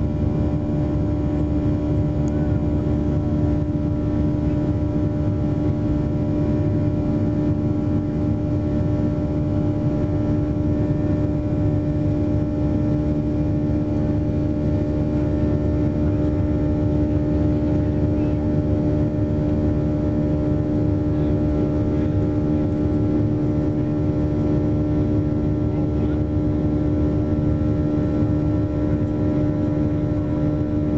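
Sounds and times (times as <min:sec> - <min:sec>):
airplane cabin engine drone: 0:00.0 - 0:30.9.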